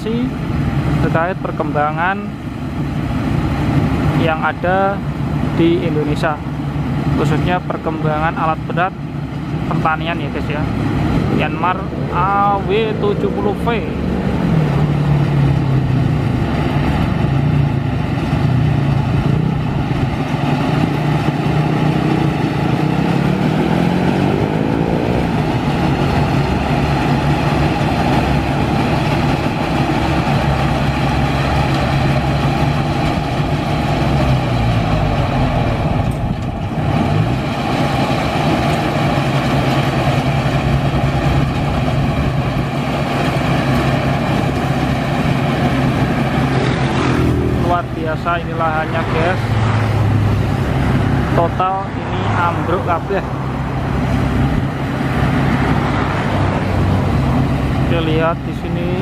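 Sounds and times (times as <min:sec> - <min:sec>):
combine harvester engine and threshing: 0:00.0 - 0:59.0.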